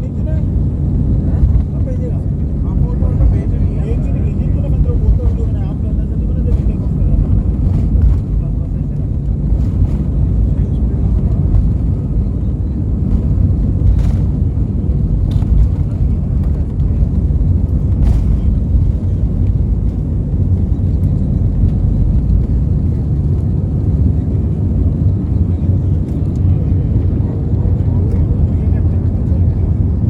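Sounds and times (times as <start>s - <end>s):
jet engines rumbling in cabin: 0.0s - 30.0s.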